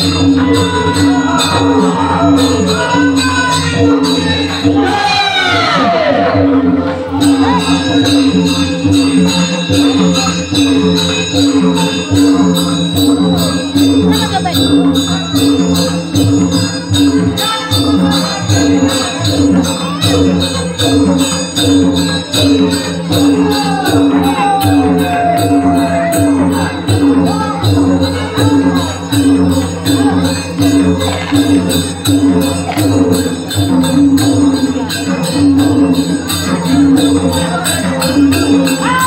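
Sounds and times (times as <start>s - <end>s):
hand drums beating: 0.0s - 39.0s
metal percussion jingling: 0.0s - 39.0s.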